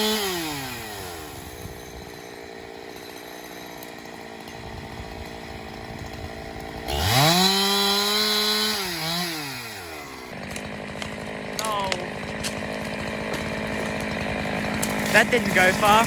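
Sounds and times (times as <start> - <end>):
chainsaw idling and revving: 0.0 - 16.0.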